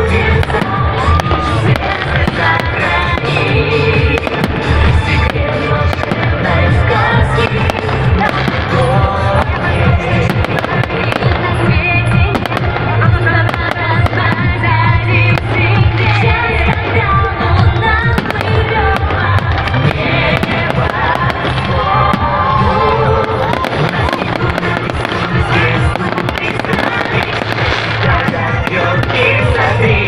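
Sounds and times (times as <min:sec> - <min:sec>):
fireworks bursting and crackling: 0:00.0 - 0:30.0
loud music with steady beat: 0:00.0 - 0:30.0.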